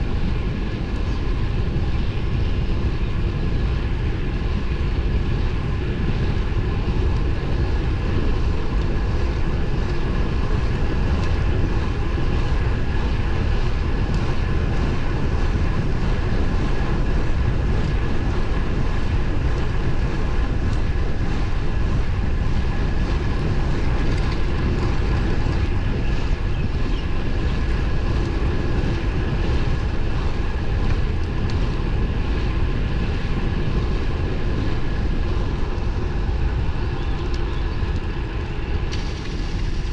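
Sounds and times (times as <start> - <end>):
faint steady whine: 0.0 - 39.9
wind and road rumble: 0.0 - 39.9.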